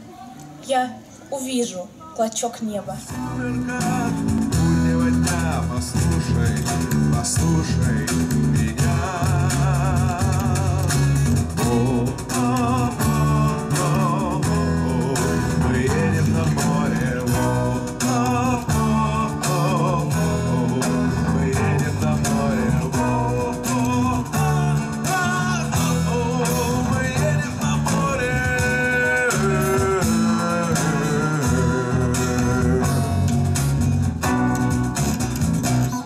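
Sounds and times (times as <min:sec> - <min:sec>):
bass line: 0:03.1 - 0:36.0
guitars playing: 0:03.1 - 0:36.0.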